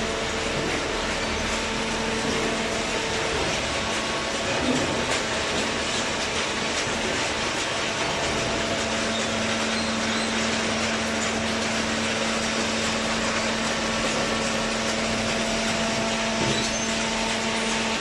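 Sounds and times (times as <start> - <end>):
baler motor and pump noise: 0.0 - 18.0.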